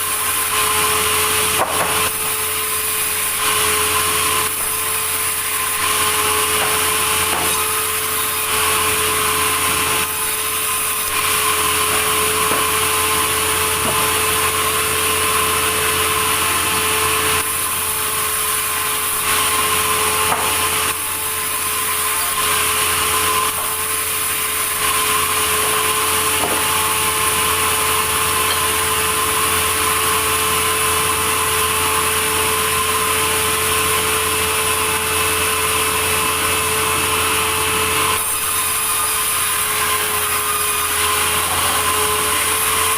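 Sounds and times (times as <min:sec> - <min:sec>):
sawmill machine hum: 0:00.0 - 0:42.9.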